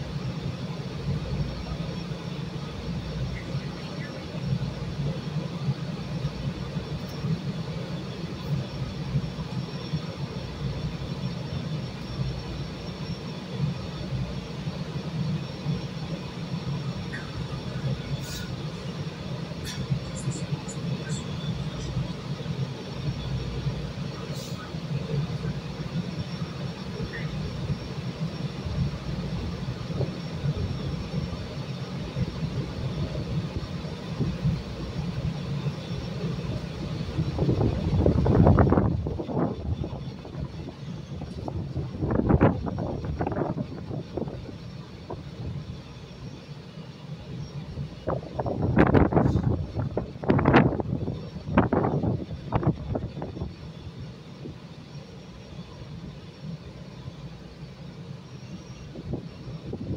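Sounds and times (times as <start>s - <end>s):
train equipment humming: 0.0s - 59.9s.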